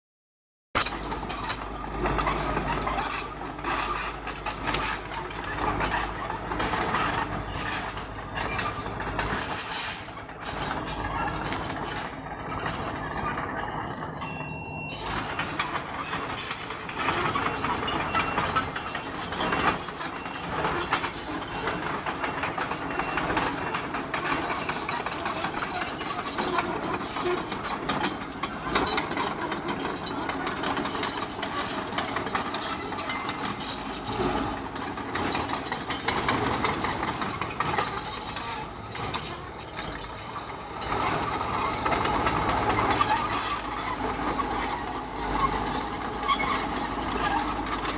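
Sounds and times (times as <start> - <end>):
bulldozer diesel engine: 0.8 - 47.9.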